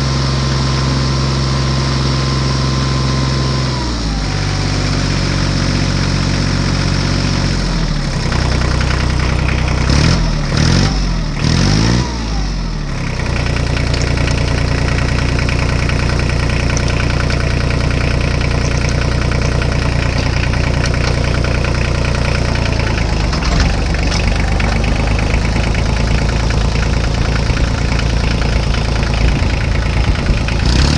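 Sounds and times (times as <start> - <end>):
small engine running and revving: 0.0 - 30.9.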